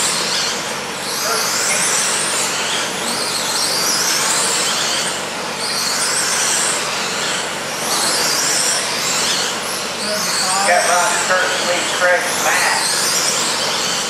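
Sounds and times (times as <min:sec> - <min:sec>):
rc truck motors whining: 0:00.0 - 0:14.0.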